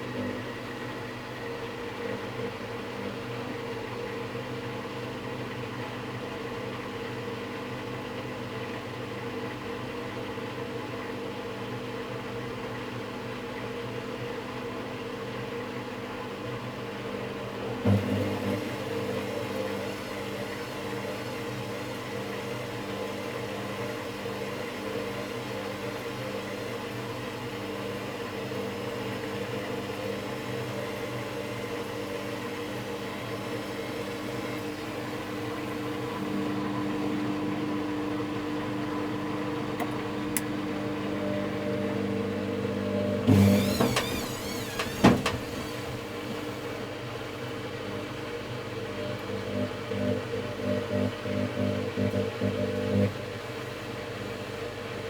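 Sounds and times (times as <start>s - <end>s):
washing machine humming and whirring: 0.0s - 55.0s.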